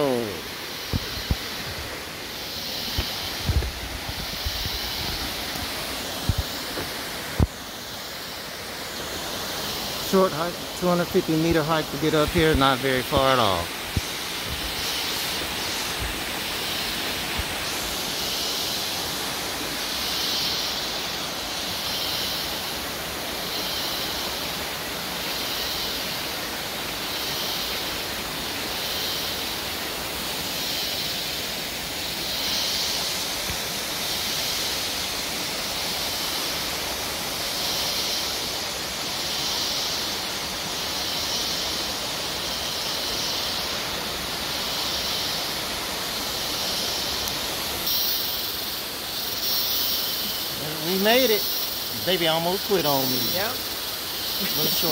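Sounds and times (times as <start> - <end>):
waterfall rushing: 0.0 - 32.2, 32.8 - 54.9
high hiss: 0.0 - 54.9.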